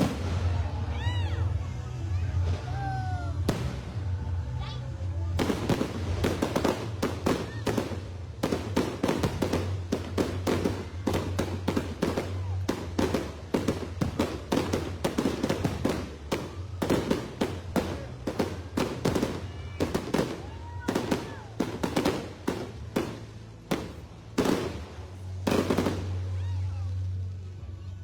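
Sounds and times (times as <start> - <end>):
fireworks bangs and crackles: 0.0 - 27.8.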